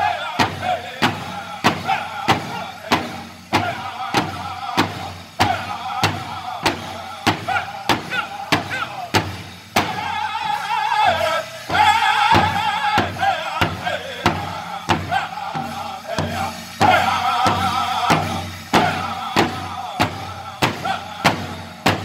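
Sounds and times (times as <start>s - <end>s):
large drum steady beat: 0.0s - 22.0s
men singing in wavering voices: 0.0s - 22.0s.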